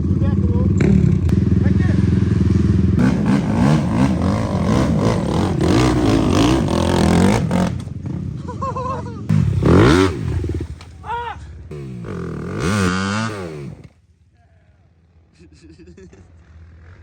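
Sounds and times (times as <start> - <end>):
off-road engines revving: 0.0 - 14.0.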